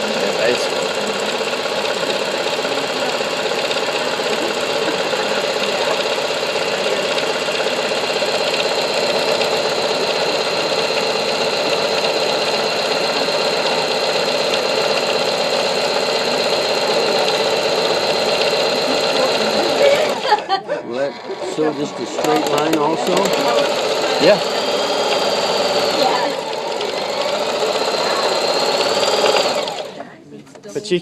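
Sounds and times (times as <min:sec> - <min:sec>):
sewing machine running: 0:00.0 - 0:30.2.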